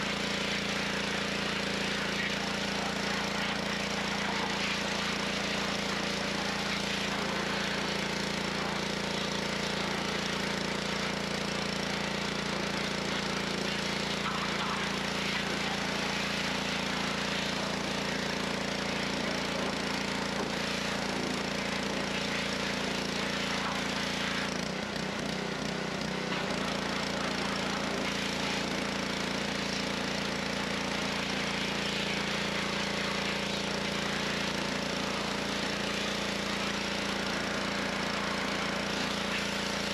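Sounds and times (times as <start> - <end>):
high-pressure water jet hissing: 0.0 - 24.6, 26.4 - 39.9
small engine running: 0.0 - 39.9.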